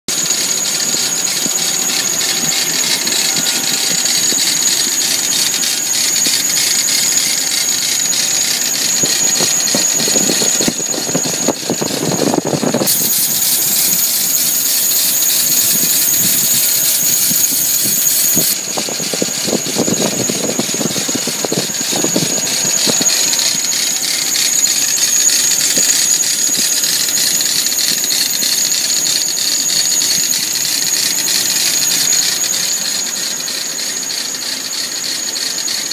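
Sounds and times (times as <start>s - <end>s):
car engine running: 0.1s - 35.9s
high-pitched belt drive whine: 0.1s - 35.9s.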